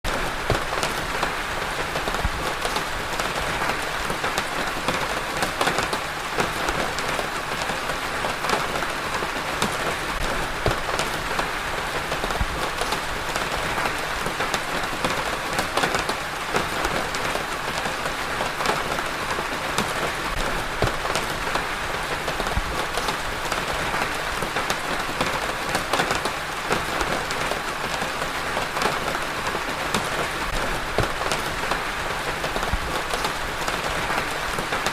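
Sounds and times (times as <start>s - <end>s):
rain falling: 0.1s - 34.9s
raindrops ticking on surface: 0.1s - 34.9s.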